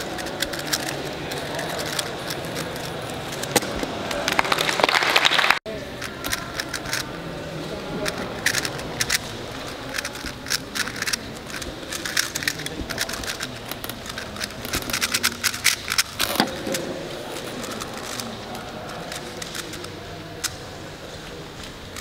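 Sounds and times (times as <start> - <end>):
puzzle cube clicking as turned: 0.0 - 5.4, 6.0 - 22.0.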